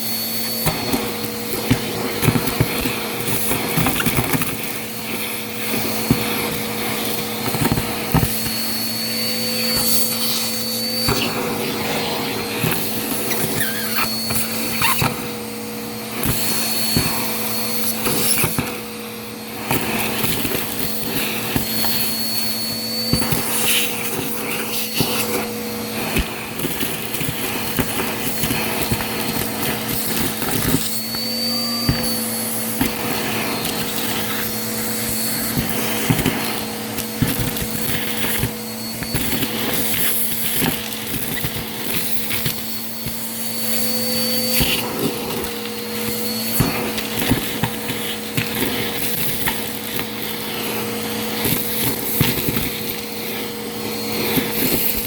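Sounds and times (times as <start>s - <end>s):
debris crackling in vacuum: 0.0s - 55.0s
vacuum cleaner running: 0.0s - 55.0s.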